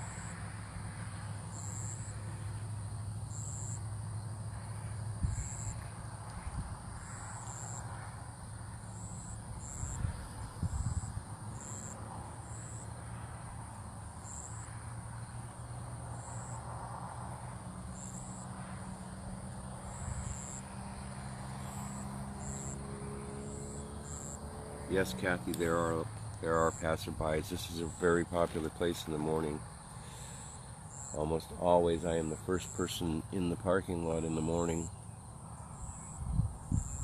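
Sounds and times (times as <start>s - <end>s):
crickets chirping: 0.0s - 37.0s
high insect trill: 0.0s - 37.0s.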